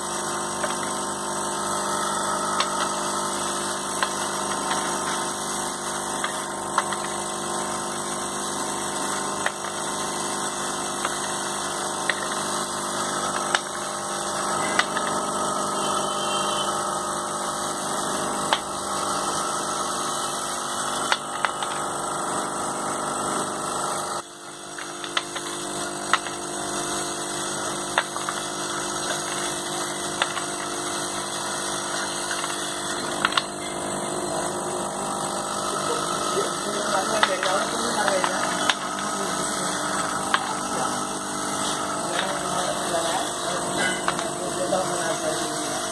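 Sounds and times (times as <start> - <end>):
electromagnetic hum: 0.0 - 45.9.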